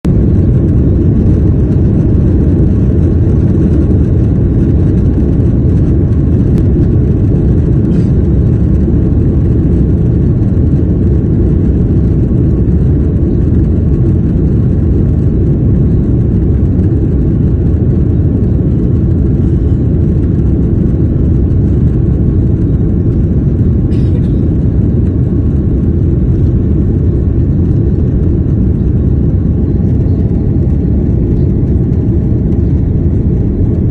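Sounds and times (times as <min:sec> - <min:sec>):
jet engines rumbling in cabin: 0:00.0 - 0:33.9.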